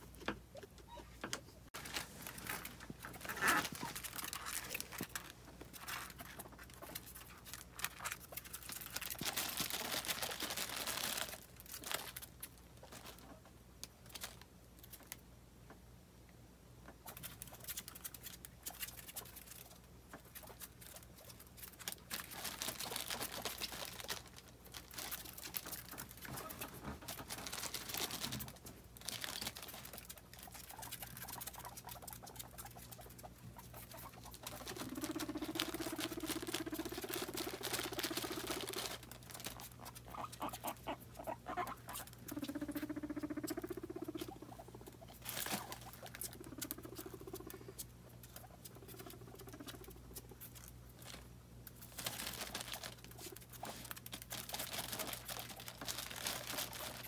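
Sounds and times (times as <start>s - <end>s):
guinea pigs clicking and rustling: 0.0s - 15.3s, 16.8s - 57.0s
guinea pig buzzing rumble: 1.7s - 15.2s, 16.8s - 57.0s.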